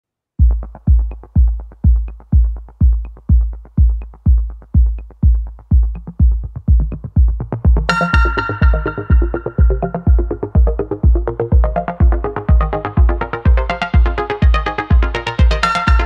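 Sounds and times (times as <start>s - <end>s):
deep kick drum: 0.4s - 16.0s
electronic dance music: 0.4s - 16.0s.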